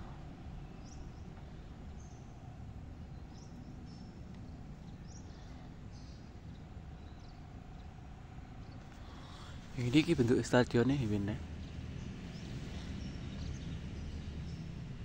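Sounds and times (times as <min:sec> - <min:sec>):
low outdoor rumble: 0:00.0 - 0:15.0
thin steady hum: 0:00.0 - 0:15.0.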